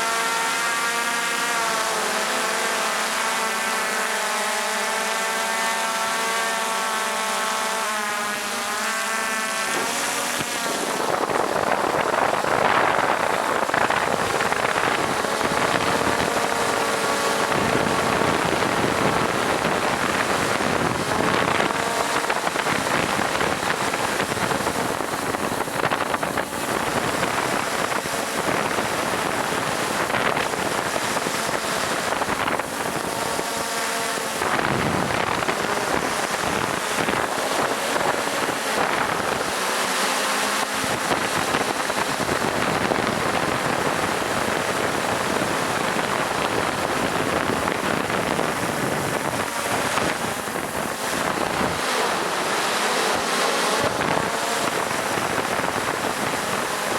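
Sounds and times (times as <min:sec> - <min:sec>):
boat motor whining: 0:00.0 - 0:56.9
rush of wind and water: 0:00.0 - 0:56.9.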